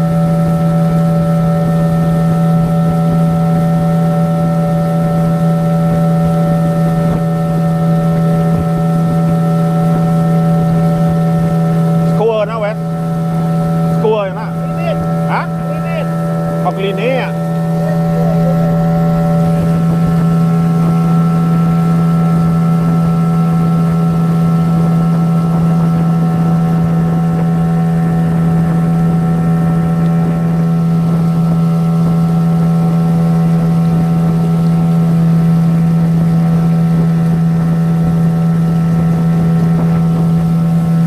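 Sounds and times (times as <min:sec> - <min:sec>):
outboard motor droning: 0:00.0 - 0:41.0.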